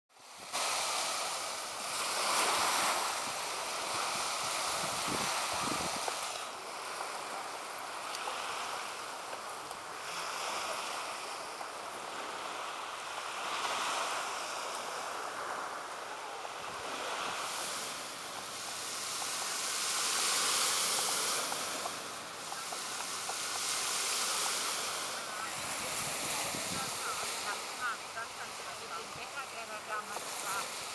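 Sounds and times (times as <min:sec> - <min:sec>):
waves washing on sandy beach: 0:00.1 - 0:30.9.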